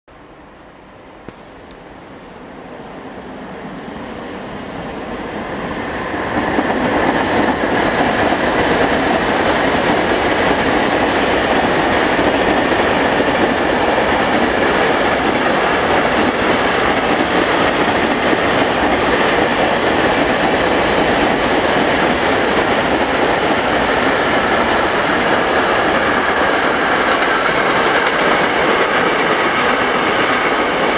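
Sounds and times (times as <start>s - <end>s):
freight train wheels on rails: 0.2s - 30.9s.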